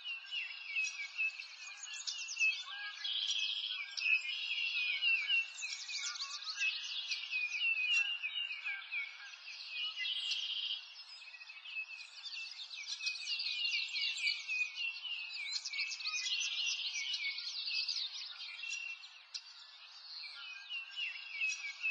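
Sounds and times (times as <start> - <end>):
birds chirping and trilling: 0.0 - 21.9.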